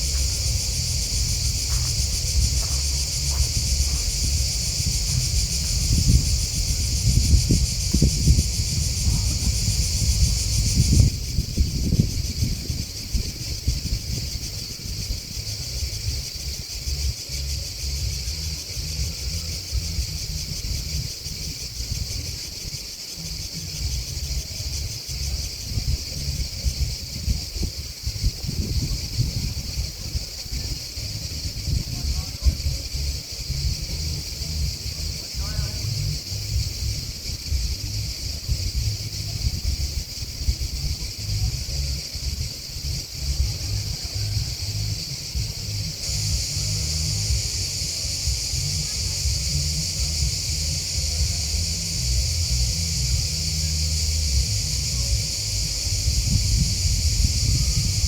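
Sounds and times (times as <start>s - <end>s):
insects chirping: 0.0s - 58.0s
wind buffeting microphone: 0.0s - 58.0s.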